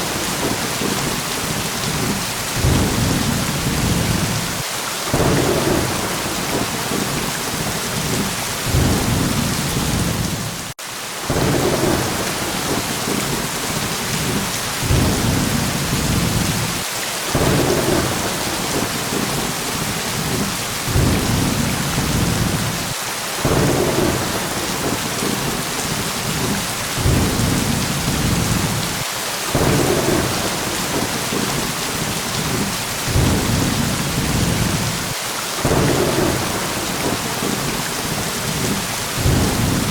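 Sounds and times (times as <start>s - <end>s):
low thunder rumbles: 0.0s - 10.7s, 11.3s - 39.9s
rain hissing: 0.0s - 39.9s.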